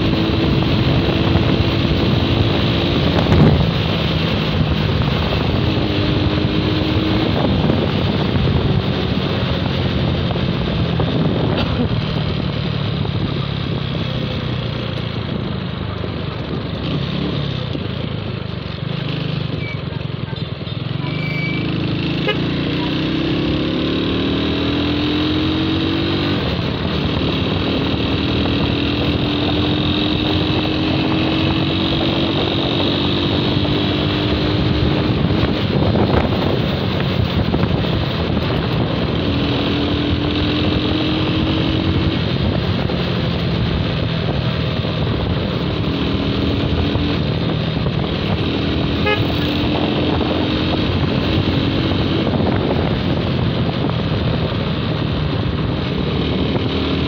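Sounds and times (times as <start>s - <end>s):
wind rushing over microphone: 0.0s - 19.7s, 21.6s - 57.0s
motorcycle engine running: 0.0s - 57.0s.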